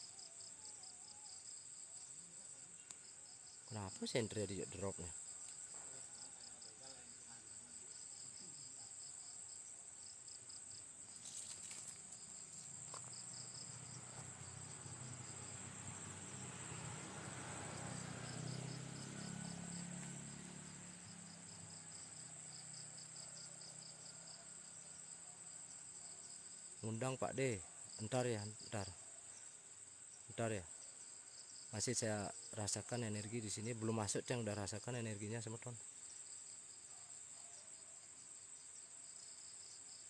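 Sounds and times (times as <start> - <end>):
cricket trill: 0.0 - 40.0
rapidly pulsing insect chirp: 0.0 - 40.0.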